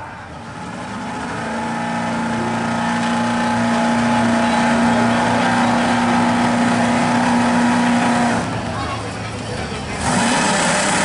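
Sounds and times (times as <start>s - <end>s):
fire truck engine running: 0.0s - 11.0s.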